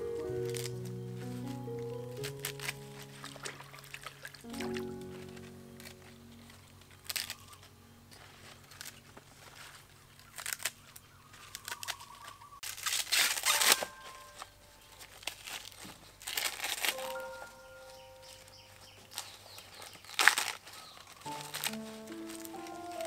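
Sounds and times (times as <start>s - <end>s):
corn husk tearing: 0.0s - 23.0s
leafy greens snapping and tearing: 0.0s - 23.0s.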